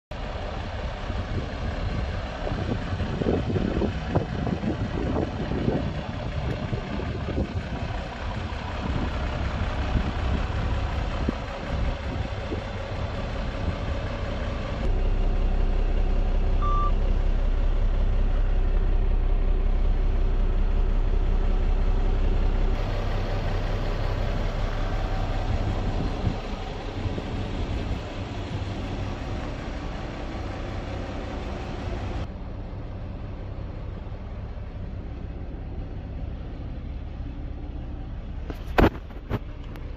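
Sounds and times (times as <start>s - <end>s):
truck diesel engine idling: 0.1s - 39.9s.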